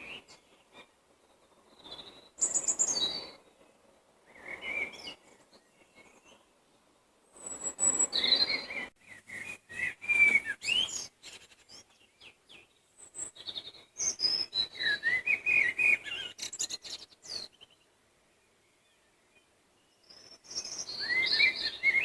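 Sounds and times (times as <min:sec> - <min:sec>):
songbird chirps and whistles: 0:00.0 - 0:06.5, 0:07.3 - 0:22.0.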